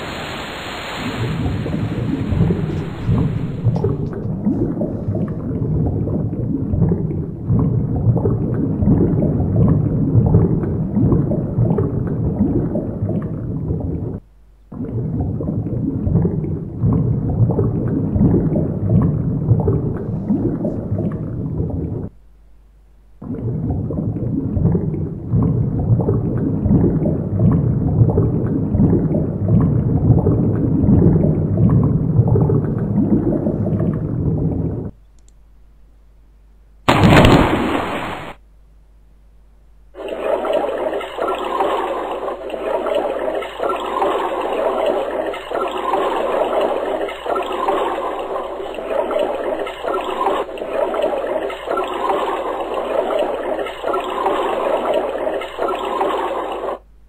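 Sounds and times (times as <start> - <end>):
underwater gurgling and bubbling: 0.0 - 22.2, 23.2 - 35.0, 40.0 - 56.9.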